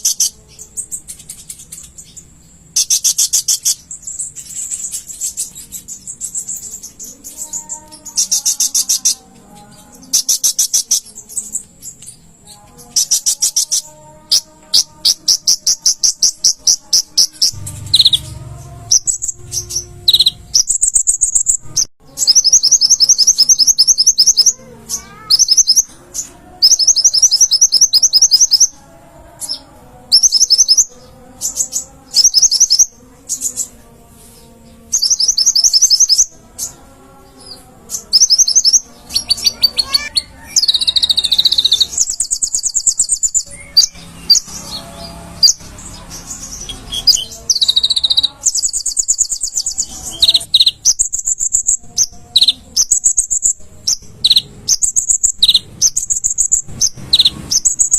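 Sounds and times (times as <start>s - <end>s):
sunbird trilling song: 0.0s - 28.8s, 29.4s - 33.8s, 34.8s - 36.8s, 37.4s - 57.9s.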